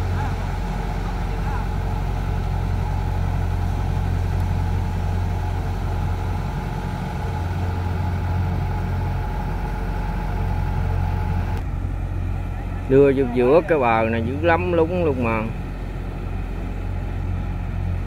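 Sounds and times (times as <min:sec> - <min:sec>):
diesel engines running under load: 0:00.0 - 0:18.0.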